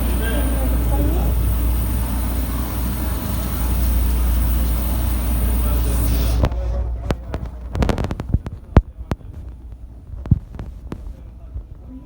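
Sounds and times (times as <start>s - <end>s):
low hum: 0.0s - 12.0s
steady rumble: 0.0s - 12.0s.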